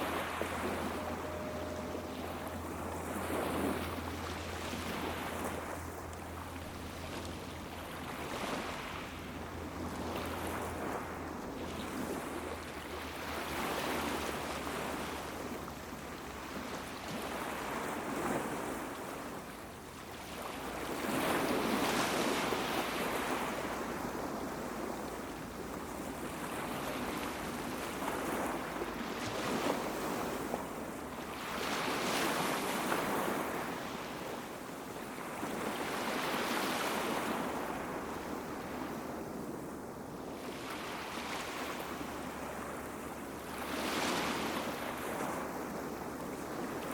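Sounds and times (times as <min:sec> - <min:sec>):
sea waves washing onto beach: 0:00.0 - 0:46.9.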